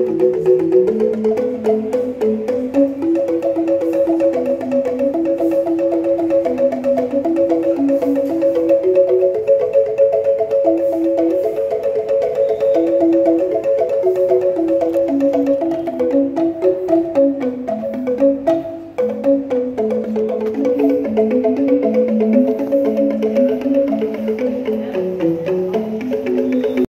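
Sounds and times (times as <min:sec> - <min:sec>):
angklung melody: 0:00.0 - 0:26.9.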